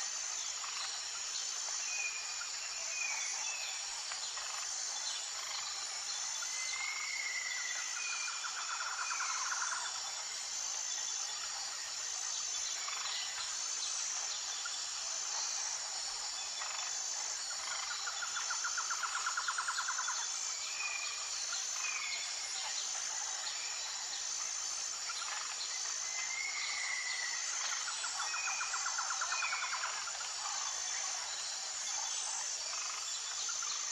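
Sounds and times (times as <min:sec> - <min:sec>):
insect chorus: 0:00.0 - 0:33.9.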